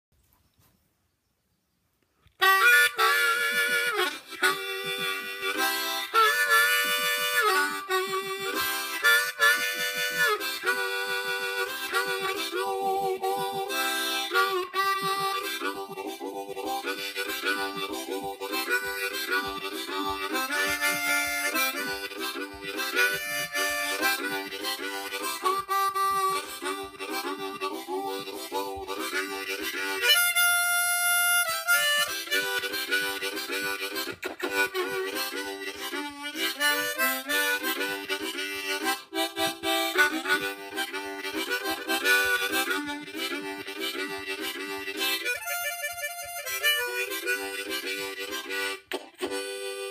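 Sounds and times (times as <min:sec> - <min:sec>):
harmonica playing rhythmic chords: 0:02.3 - 0:49.9.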